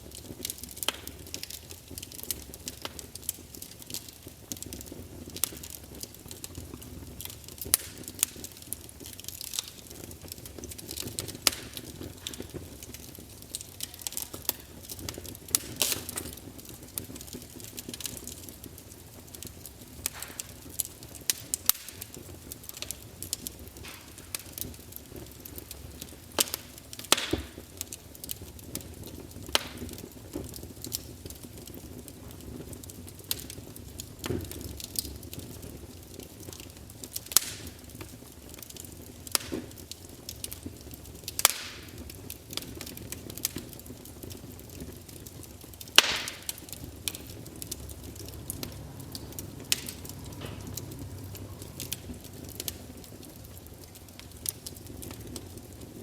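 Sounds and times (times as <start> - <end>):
campfire pops and snaps: 0.0 - 56.0
low rumble of flames: 0.0 - 56.0.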